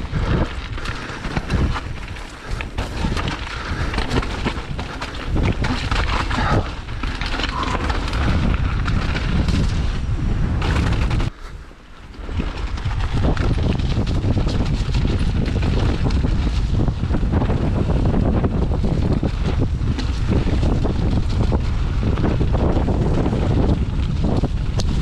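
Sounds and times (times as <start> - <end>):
bike clattering over bumps: 0.0 - 25.0
tyres on rough ground: 0.0 - 25.0
wind buffeting microphone: 0.0 - 25.0.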